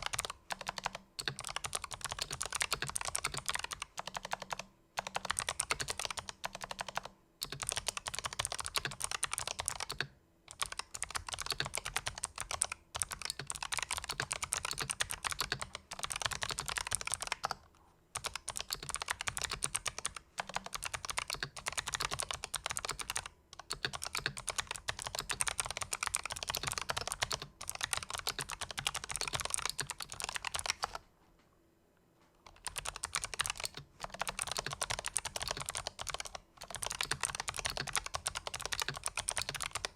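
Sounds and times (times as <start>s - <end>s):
clicky keyboard typing: 0.0s - 31.0s, 32.4s - 39.9s.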